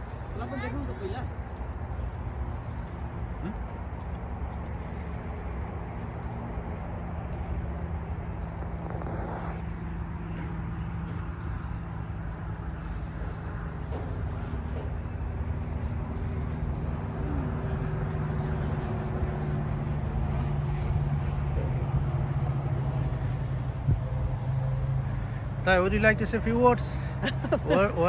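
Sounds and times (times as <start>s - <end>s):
car road noise rumble: 0.0s - 28.0s.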